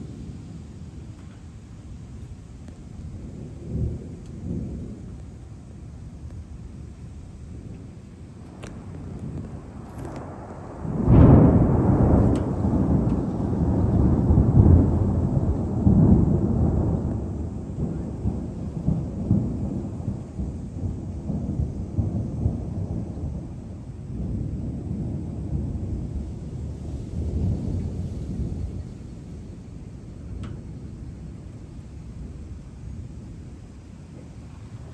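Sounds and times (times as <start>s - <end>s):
thunder crack and rumble: 0.0s - 34.9s.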